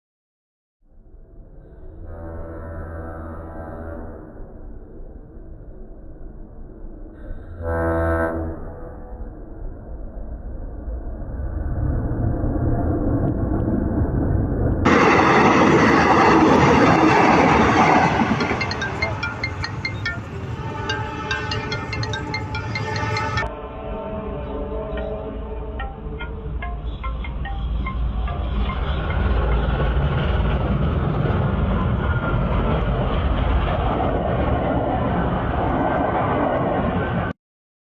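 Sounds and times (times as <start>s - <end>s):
train passing: 2.0s - 37.3s.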